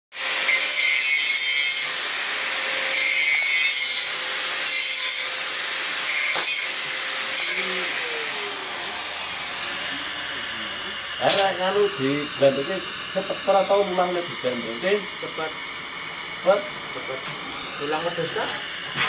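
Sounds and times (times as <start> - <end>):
saw cutting iron pipe: 0.1 - 19.0.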